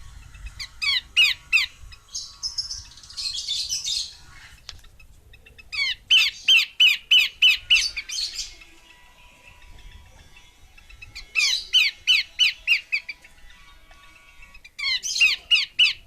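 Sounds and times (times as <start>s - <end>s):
babbler harsh chatter: 0.0s - 16.0s.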